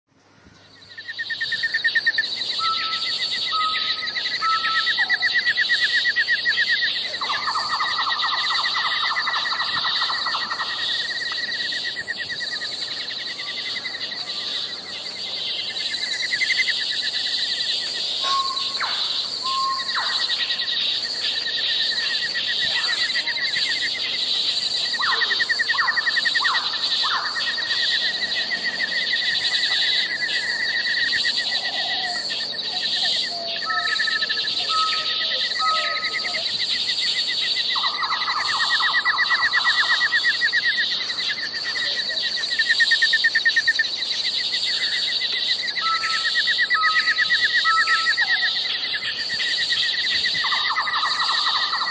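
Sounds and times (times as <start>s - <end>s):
insects trilling: 0.2s - 51.9s.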